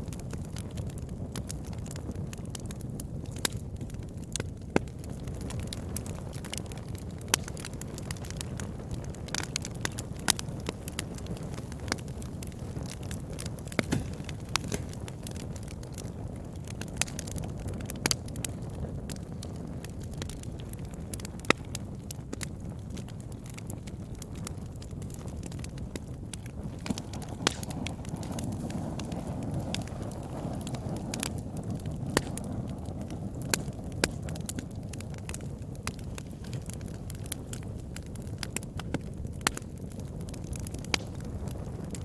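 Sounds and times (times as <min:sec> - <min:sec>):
campfire flames rushing: 0:00.0 - 0:42.0
wood crackling and popping: 0:00.0 - 0:42.0.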